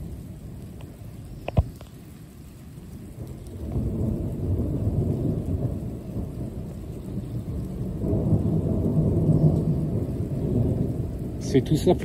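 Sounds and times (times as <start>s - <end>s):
rolling thunder: 0.0s - 12.0s.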